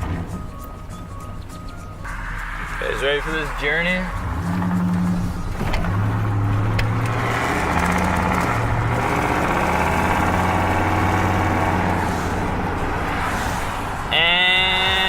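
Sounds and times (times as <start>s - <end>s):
car engine humming: 0.0s - 15.0s
road noise: 0.0s - 15.0s.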